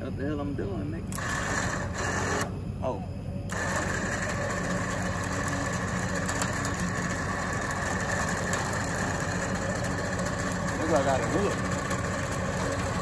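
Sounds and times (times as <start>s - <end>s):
vehicle engine idling: 2.5s - 13.0s.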